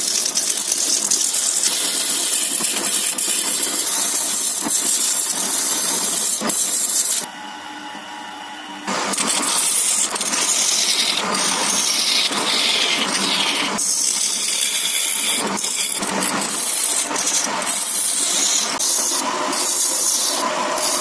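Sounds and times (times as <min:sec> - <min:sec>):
lathe gouge cutting wood: 0:00.0 - 0:07.3, 0:08.9 - 0:21.0
lathe motor hum: 0:00.2 - 0:21.0.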